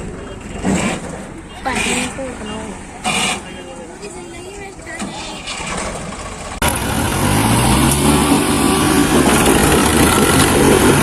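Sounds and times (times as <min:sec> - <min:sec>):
diesel tractor engine under load: 0:00.0 - 0:11.0.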